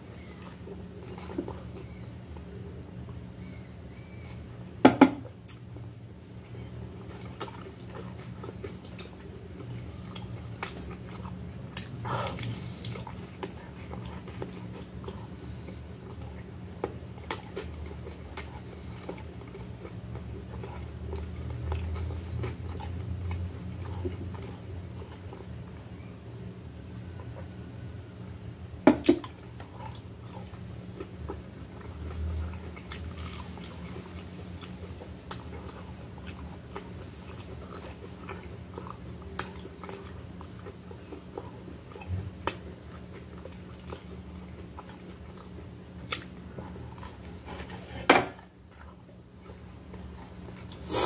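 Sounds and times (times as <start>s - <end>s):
person chewing food: 0.0s - 4.5s, 5.2s - 28.2s, 28.9s - 51.0s
steady low hum: 0.0s - 51.0s.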